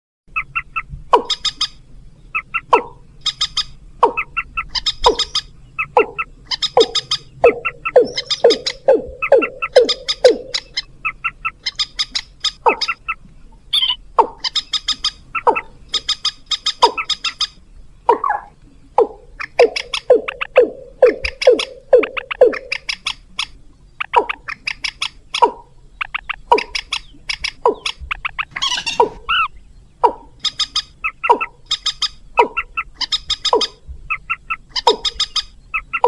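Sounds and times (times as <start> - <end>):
moorhen clucking and croaking: 0.3 - 36.0.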